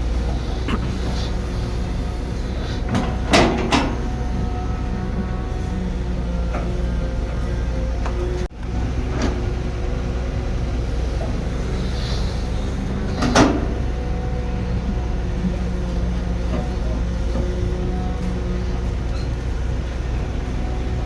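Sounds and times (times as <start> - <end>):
construction machine engine rumbling: 0.0 - 21.0.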